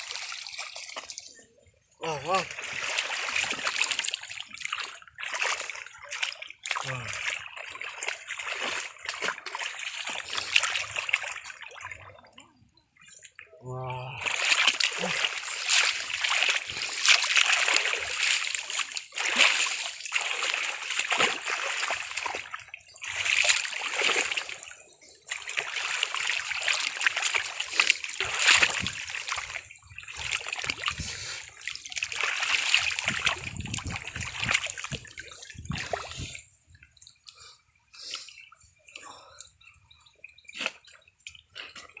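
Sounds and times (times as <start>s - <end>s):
faint water drips: 0.0s - 42.0s
water splashing and sloshing: 0.0s - 42.0s.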